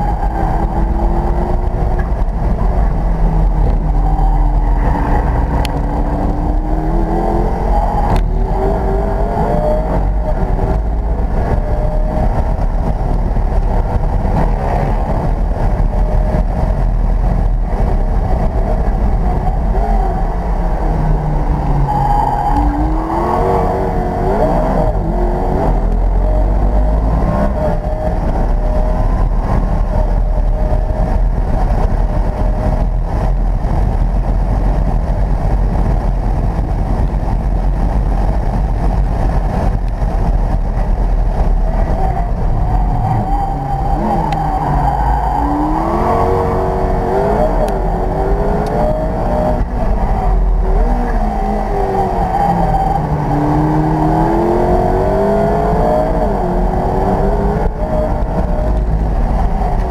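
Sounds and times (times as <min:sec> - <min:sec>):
car engine roaring at full throttle: 0:00.0 - 0:59.9
wind noise: 0:00.0 - 0:59.9.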